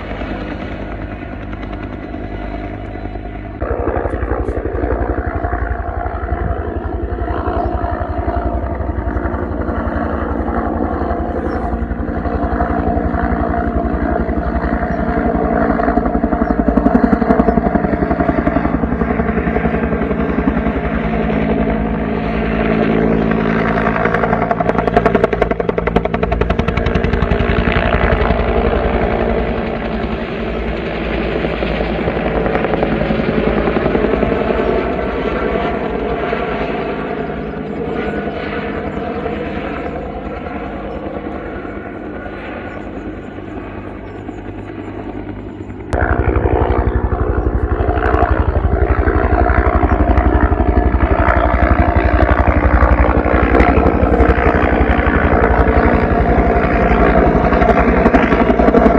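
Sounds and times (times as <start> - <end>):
helicopter rotors beating: 0.0 - 58.9
turbine engine whine: 0.0 - 58.9.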